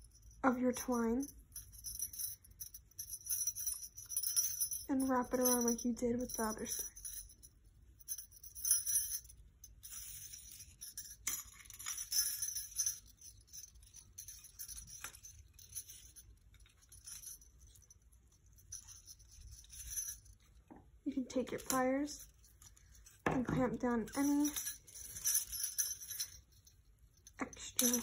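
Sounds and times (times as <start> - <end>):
steel wire jingling and scraping: 0.0 - 28.0.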